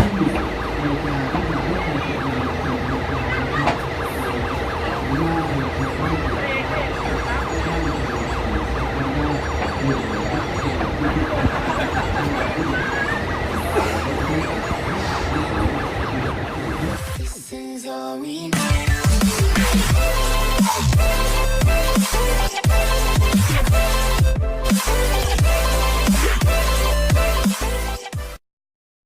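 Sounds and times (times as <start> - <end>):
wailing siren tones: 0.0 - 17.5, 18.6 - 28.4.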